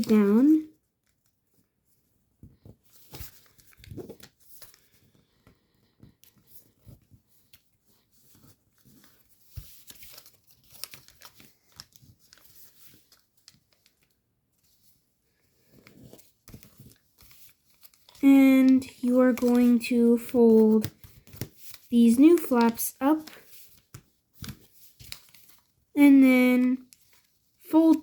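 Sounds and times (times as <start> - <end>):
paper being folded by hand: 0.0 - 28.0.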